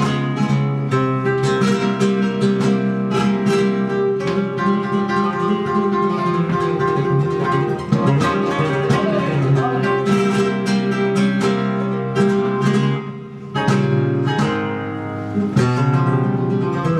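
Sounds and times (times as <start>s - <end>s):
flamenco acoustic guitar: 0.0s - 16.9s.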